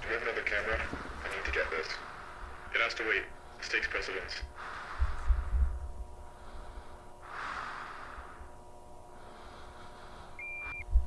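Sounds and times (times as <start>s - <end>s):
faint electrical hum: 0.0s - 11.0s
man breathing heavily: 0.9s - 3.6s, 4.5s - 10.8s.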